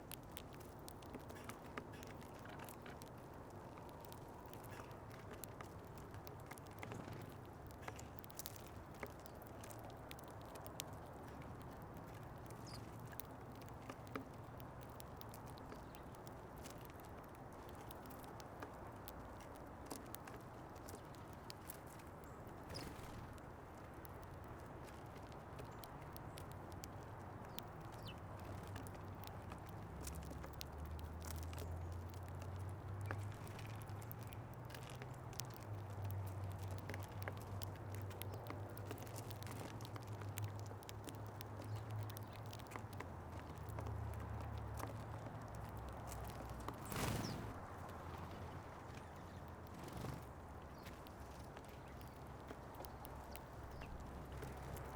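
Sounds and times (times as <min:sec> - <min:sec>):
birds pecking seed: 0:00.0 - 0:54.9.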